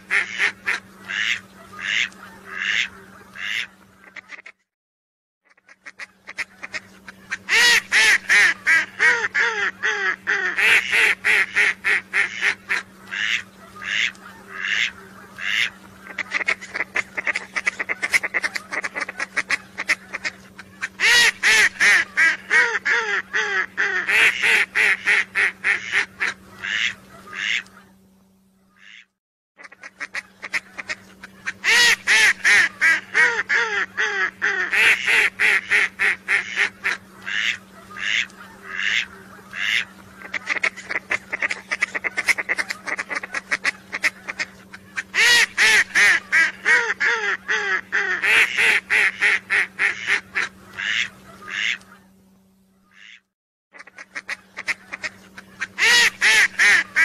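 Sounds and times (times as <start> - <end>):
ducks whistling calls: 0.0 - 4.6, 5.5 - 28.0, 28.6 - 52.2, 52.8 - 57.0
steady low hum: 0.0 - 4.6, 5.5 - 57.0.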